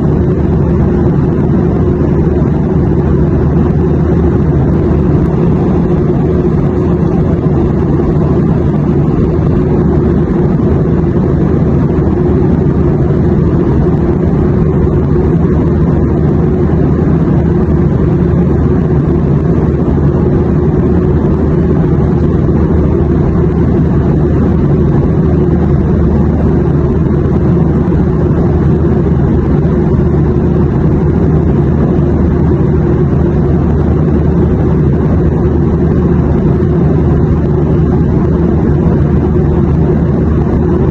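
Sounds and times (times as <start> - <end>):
airplane drone: 0.0 - 40.9.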